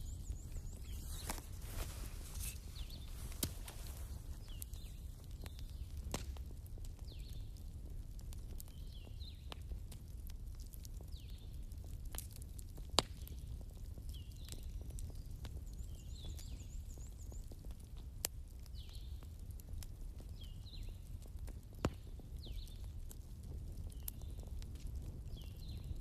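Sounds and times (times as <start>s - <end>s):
burning wood crackling and popping: 0.0s - 26.0s
campfire flames rumbling: 0.0s - 26.0s.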